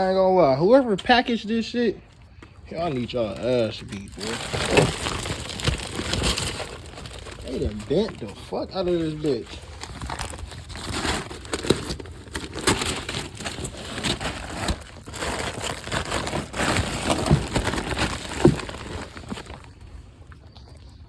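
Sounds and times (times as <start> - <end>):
packaging crinkling and rustling: 0.8 - 20.7.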